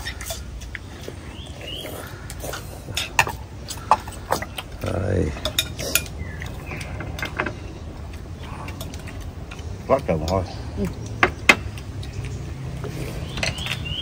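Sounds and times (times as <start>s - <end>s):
eating noise: 0.0s - 14.0s.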